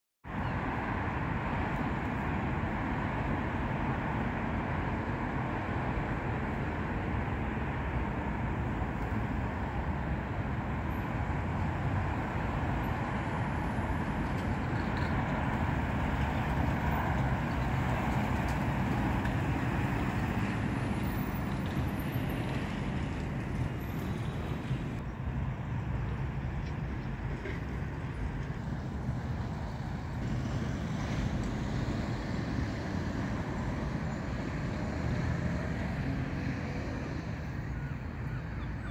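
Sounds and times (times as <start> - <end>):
road traffic rumble: 0.2 - 38.9
bus engine driving past: 0.3 - 38.9.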